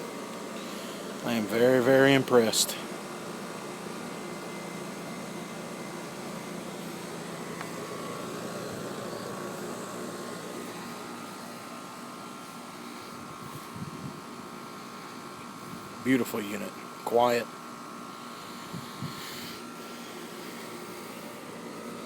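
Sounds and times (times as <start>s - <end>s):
faint steady whine: 0.0s - 22.0s
heat pump unit humming: 0.0s - 22.0s.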